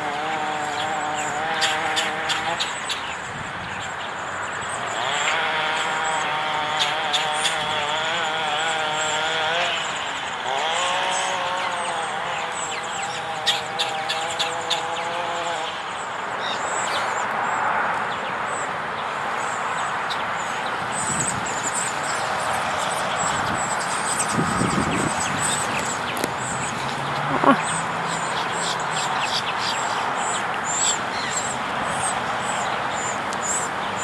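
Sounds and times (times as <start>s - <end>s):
birds chirping: 0.0s - 34.0s
outdoor background noise: 0.0s - 34.0s.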